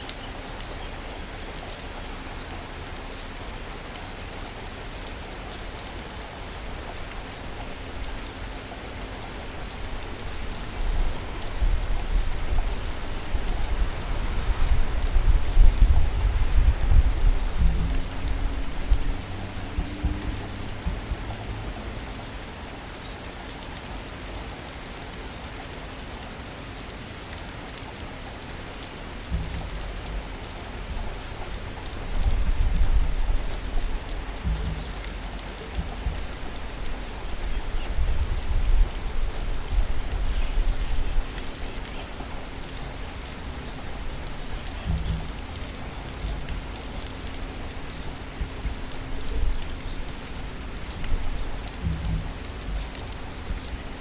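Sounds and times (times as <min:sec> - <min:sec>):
rain falling on city surfaces: 0:00.0 - 0:54.0.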